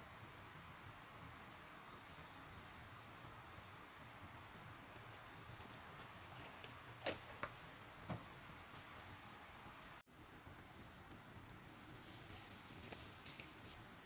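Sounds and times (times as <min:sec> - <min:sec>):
insect chirp: 0:00.0 - 0:14.0.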